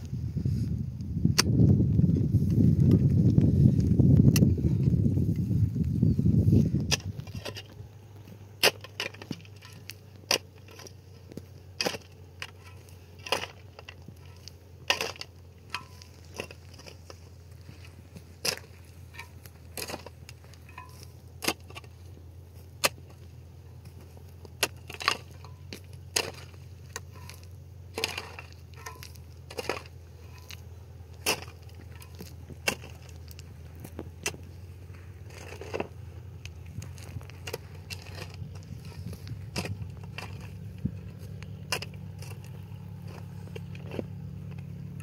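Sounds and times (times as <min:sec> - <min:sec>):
clods crunching: 0:02.3 - 0:45.0
shovel scraping into soil: 0:06.4 - 0:36.0, 0:36.7 - 0:44.0.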